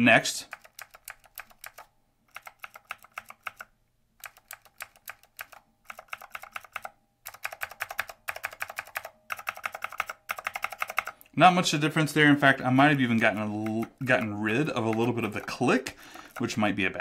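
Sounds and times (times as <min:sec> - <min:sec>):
mechanical keyboard clicks: 0:00.5 - 0:11.2, 0:12.8 - 0:16.6.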